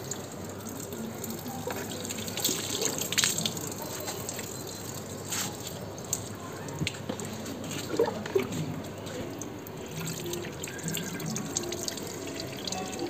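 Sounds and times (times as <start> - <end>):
water splashing onto paving: 0.0 - 13.0.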